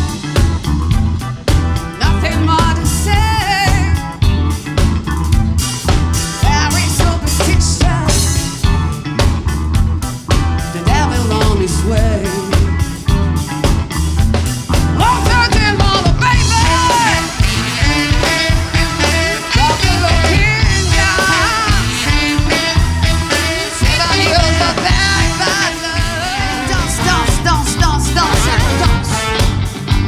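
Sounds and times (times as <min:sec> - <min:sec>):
funk disco band playing live: 0:00.0 - 0:30.0.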